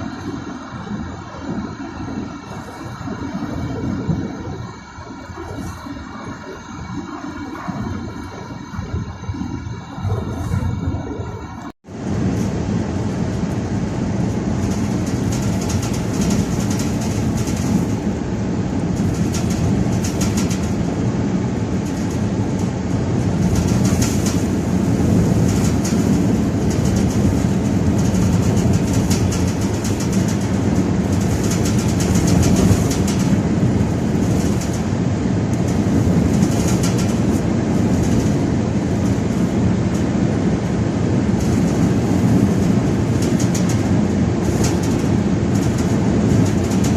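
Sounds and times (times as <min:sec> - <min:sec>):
vehicle rumbling travel noise: 0:00.0 - 0:46.9
wind rushing past: 0:00.0 - 0:46.9.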